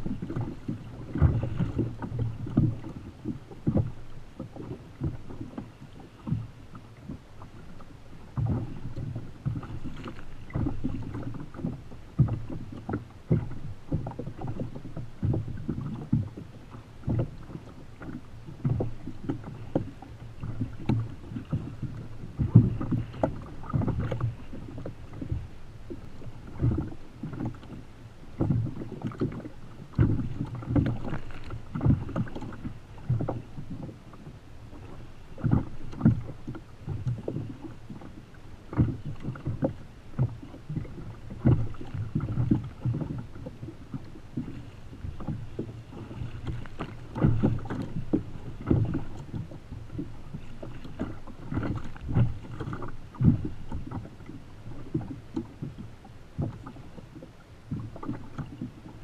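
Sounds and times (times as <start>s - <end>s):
water slapping against kayak hull: 0.0s - 59.0s.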